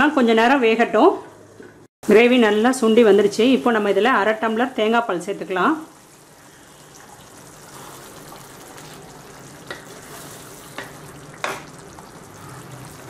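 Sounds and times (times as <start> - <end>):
gravy sizzling in a pan: 2.0 - 13.0.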